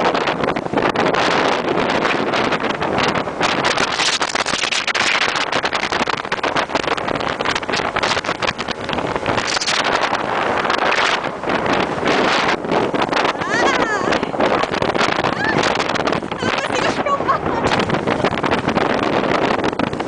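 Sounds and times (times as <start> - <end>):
motorboat running noise: 0.0 - 20.0
wind buffeting microphone: 0.0 - 20.0.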